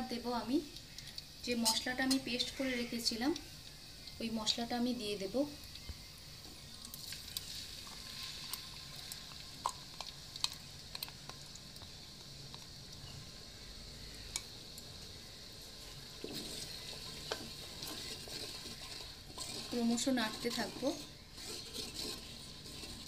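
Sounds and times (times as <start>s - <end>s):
spice paste sizzling in oil: 0.0s - 23.0s.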